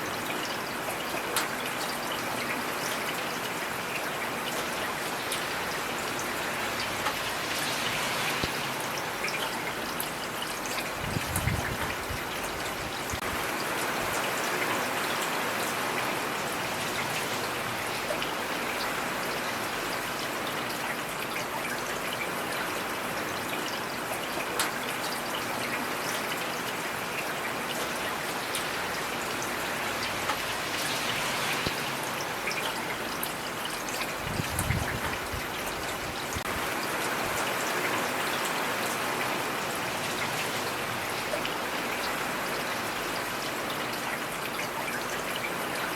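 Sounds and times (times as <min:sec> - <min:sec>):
heavy rain falling: 0:00.1 - 0:45.9.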